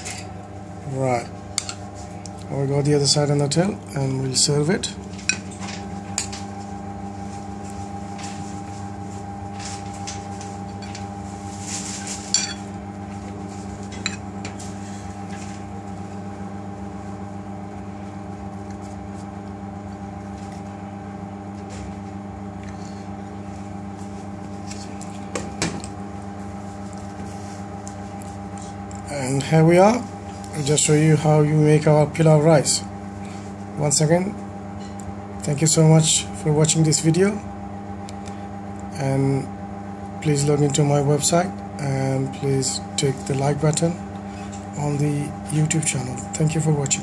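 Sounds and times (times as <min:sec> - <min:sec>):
kitchen equipment hum: 0:00.0 - 0:47.0.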